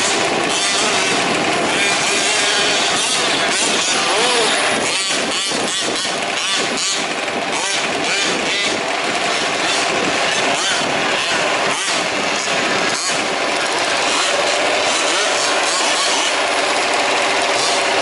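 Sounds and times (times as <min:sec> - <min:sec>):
small two-stroke engines revving: 0:00.0 - 0:18.0.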